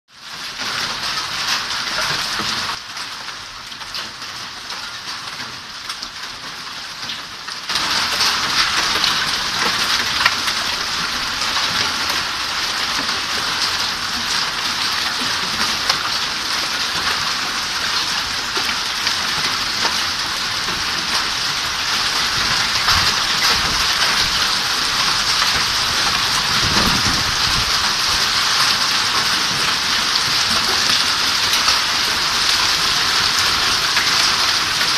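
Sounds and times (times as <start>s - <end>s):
rain falling: 0.1s - 34.9s.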